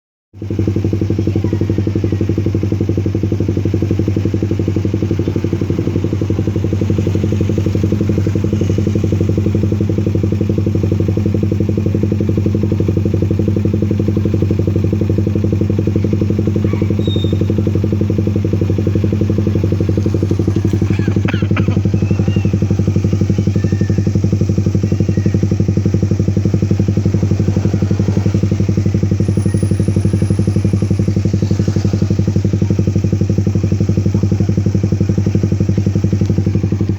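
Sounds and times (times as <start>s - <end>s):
motorcycle engine idling: 0.4s - 36.9s.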